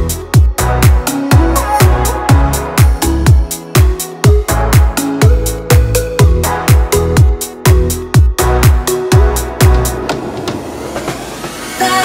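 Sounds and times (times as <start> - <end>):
kick drum: 0.0 - 10.6
electronic house music: 0.0 - 12.0.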